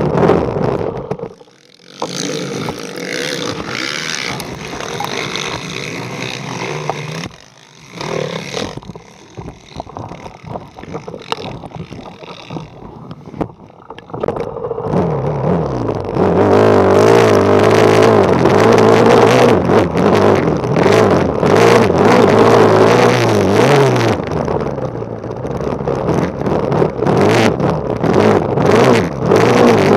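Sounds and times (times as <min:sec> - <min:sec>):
motocross bike engine revving: 0:00.0 - 0:24.4, 0:26.0 - 0:29.9.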